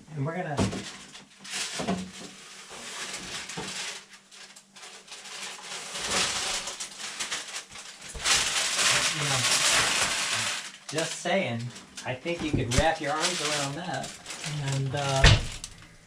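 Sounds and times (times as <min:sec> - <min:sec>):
baking paper rustling: 0:00.6 - 0:16.0.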